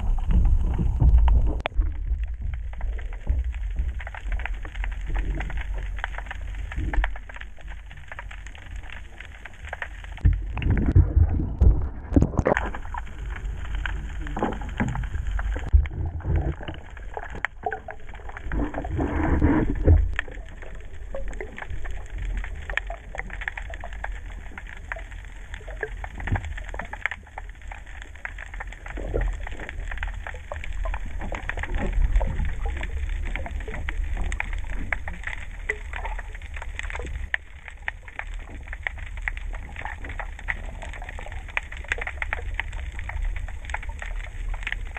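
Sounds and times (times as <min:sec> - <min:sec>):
fine crackling clicks: 0:00.0 - 0:44.9
muffled underwater rumble: 0:00.0 - 0:44.9.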